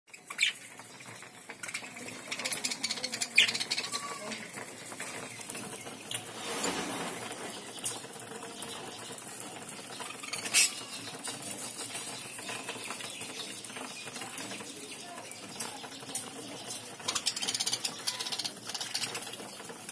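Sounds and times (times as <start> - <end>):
budgerigars chirping and chattering: 0.1 - 19.7.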